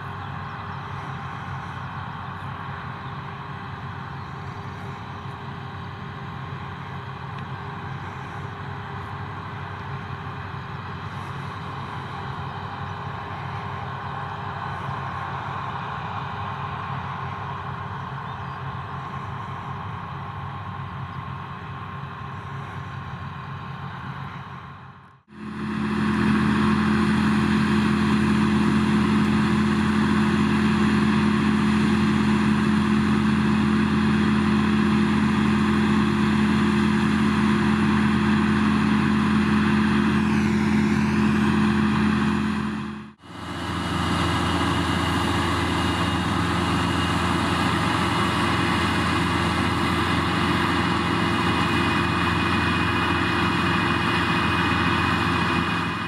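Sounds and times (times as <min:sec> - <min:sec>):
combine harvester engine hum: 0:00.0 - 0:56.0.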